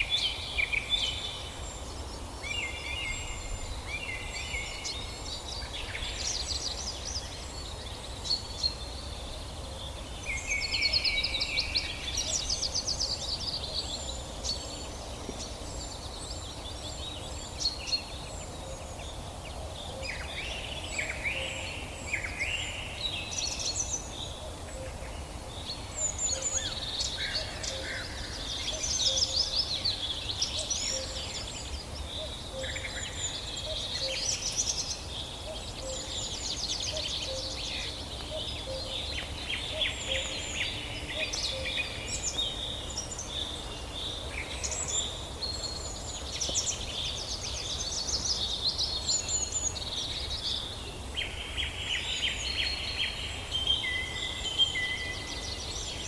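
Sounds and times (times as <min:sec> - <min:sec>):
low background hiss: 0:00.0 - 0:56.0
songbirds singing and calling: 0:00.0 - 0:56.0.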